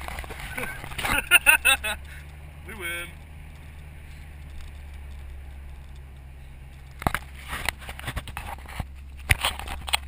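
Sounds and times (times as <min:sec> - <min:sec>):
car engine droning: 0:00.0 - 0:10.0
sharp crackles and knocks: 0:00.0 - 0:10.0.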